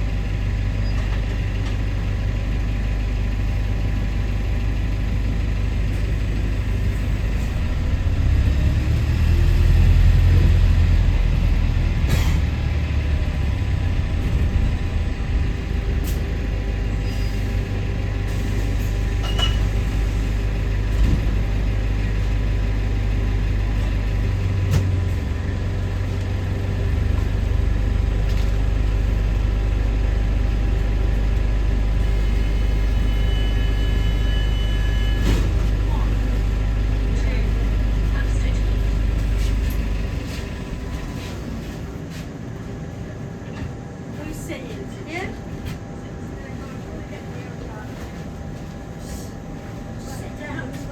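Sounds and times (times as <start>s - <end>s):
bus engine drone: 0.0s - 50.9s.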